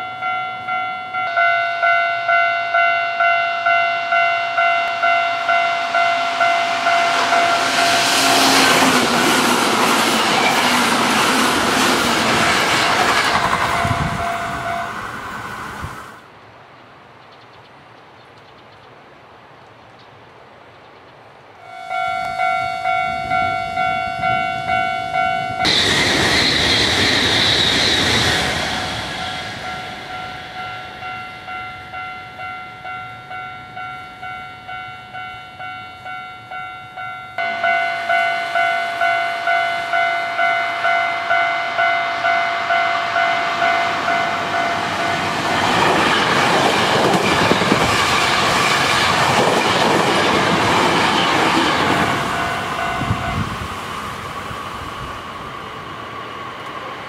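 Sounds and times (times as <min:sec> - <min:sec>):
level-crossing warning bell: 0:00.0 - 0:15.2, 0:21.6 - 0:27.1, 0:28.6 - 0:53.7
electric train passing: 0:00.0 - 0:16.3, 0:21.6 - 0:57.0.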